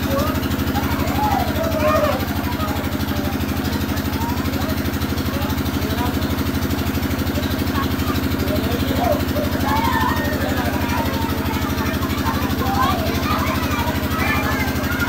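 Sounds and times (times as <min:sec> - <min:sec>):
motor humming with even throb: 0:00.0 - 0:15.0.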